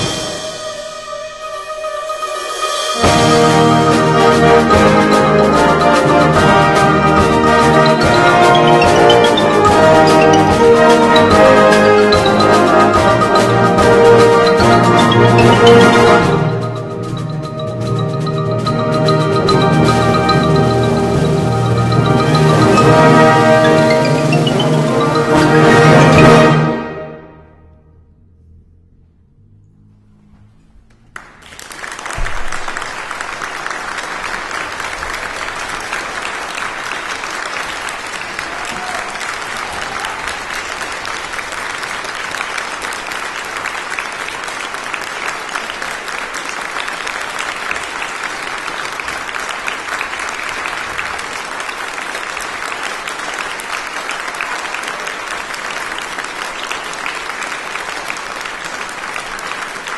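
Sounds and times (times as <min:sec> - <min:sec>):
audience applause: 0:02.9 - 0:26.8, 0:31.1 - 0:59.9.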